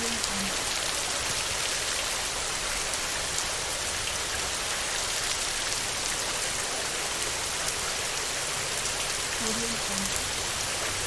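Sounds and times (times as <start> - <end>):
heavy rain on a tin roof: 0.0 - 11.0.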